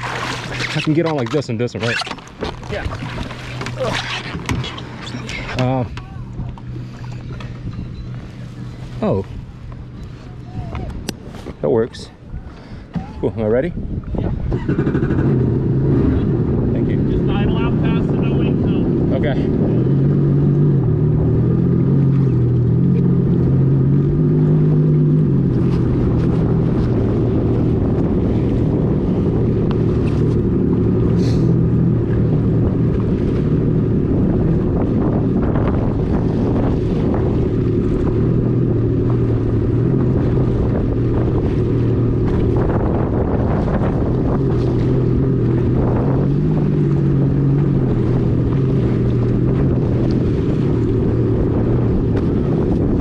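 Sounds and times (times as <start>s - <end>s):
watercraft engine droning: 0.0s - 53.0s
wind buffeting microphone: 0.0s - 53.0s.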